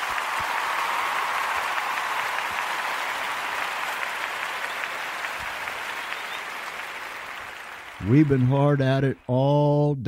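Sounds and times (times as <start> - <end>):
audience applause: 0.0 - 9.9.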